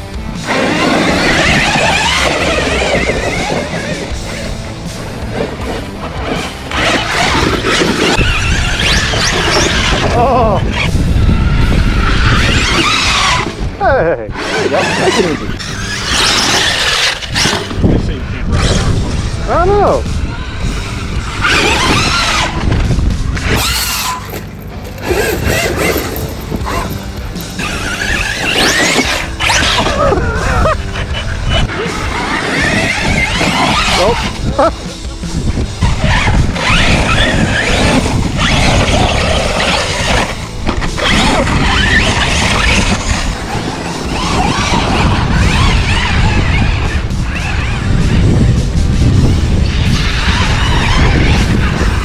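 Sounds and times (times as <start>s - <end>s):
rc truck electric motors whining: 0.0s - 19.2s, 20.1s - 34.5s, 35.4s - 52.0s
tyres rumbling on dirt: 0.0s - 52.0s
wind: 0.0s - 52.0s.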